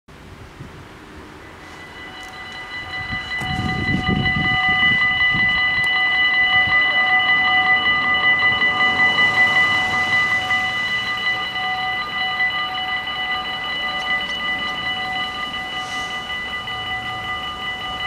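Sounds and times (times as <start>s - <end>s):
low rumble: 0.7s - 18.0s
level crossing bells ringing: 1.4s - 18.0s.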